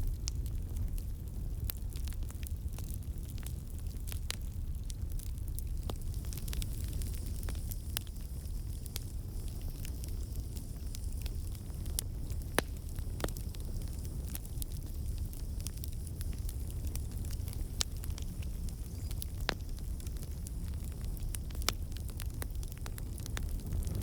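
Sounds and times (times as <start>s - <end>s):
burning wood crackling and popping: 0.0s - 24.0s
low rumble of flames: 0.0s - 24.0s.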